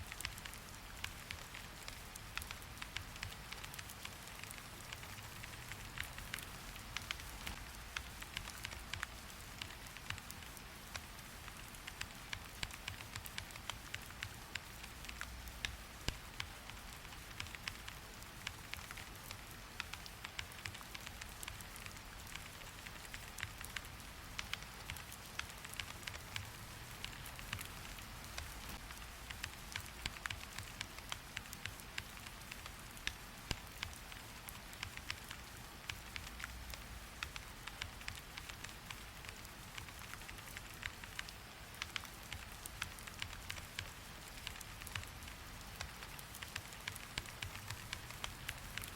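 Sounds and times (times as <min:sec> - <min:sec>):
rain falling: 0:00.0 - 0:48.9
sharp ticks: 0:00.2 - 0:48.9.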